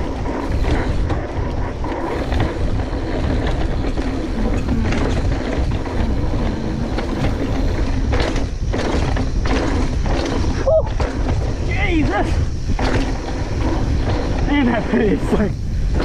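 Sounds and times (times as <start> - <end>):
bike chain and frame rattling: 0.0 - 16.0
bike tyres rolling over dirt: 0.0 - 16.0
wind rumble on microphone: 0.0 - 16.0.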